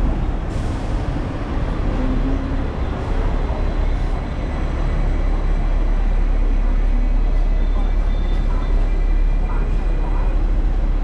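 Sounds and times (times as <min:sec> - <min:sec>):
tram rumbling along tracks: 0:00.0 - 0:11.0.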